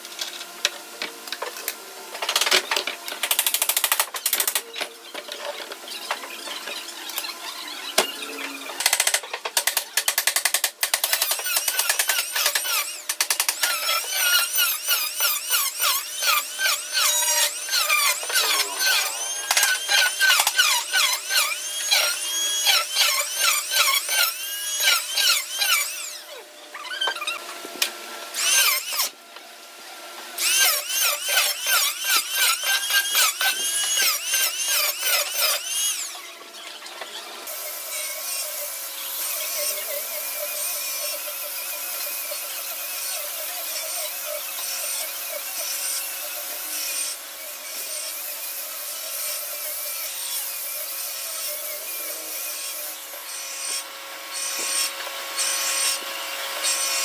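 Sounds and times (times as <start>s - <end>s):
electric planer shaving wood: 0.0s - 29.2s, 29.8s - 57.0s.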